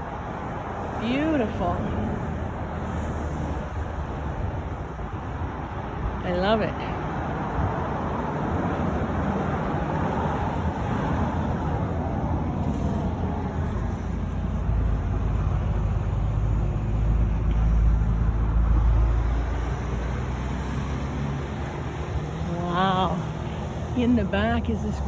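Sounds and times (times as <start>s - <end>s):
road traffic noise: 0.0s - 25.0s
vehicle engine rumble passing: 0.0s - 25.0s.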